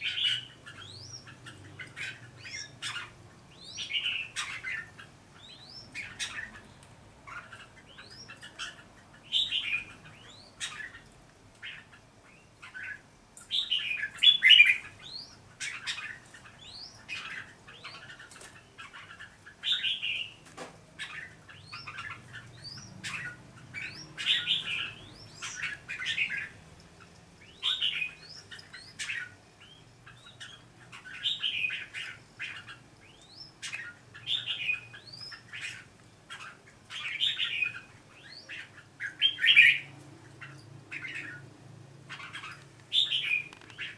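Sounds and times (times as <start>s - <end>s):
birds chirping whistled notes: 0.0s - 20.4s, 21.0s - 26.6s, 27.4s - 41.5s, 42.1s - 43.9s.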